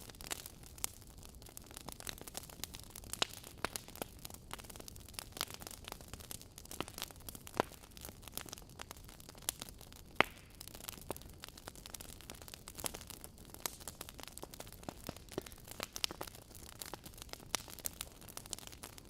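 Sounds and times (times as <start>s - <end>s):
logs crackling and popping: 0.0s - 19.0s.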